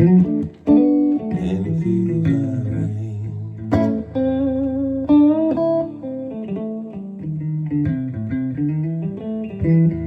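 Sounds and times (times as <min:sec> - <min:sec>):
guitar picking notes and chords: 0:00.0 - 0:10.0.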